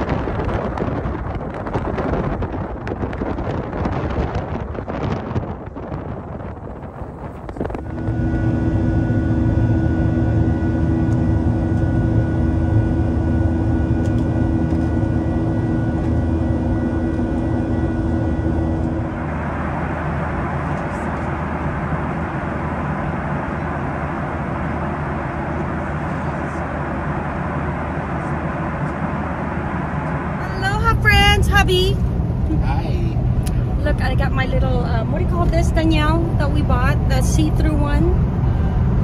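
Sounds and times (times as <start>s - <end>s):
jet engine drone in cabin: 0.0s - 39.0s.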